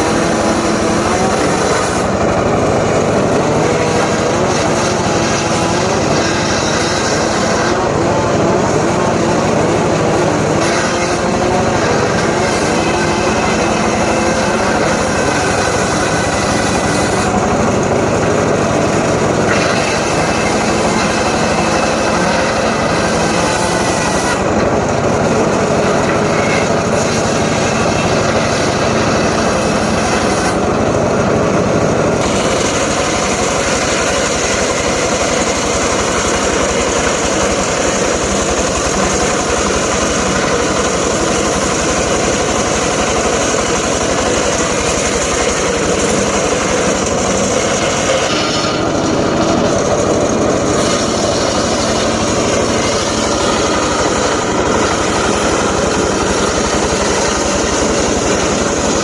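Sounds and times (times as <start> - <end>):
circular saw cutting logs: 0.0 - 59.0.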